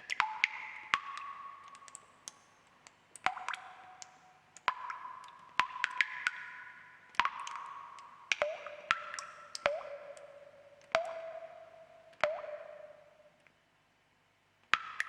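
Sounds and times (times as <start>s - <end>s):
water drops plinking into water: 0.0s - 13.6s, 14.7s - 15.0s.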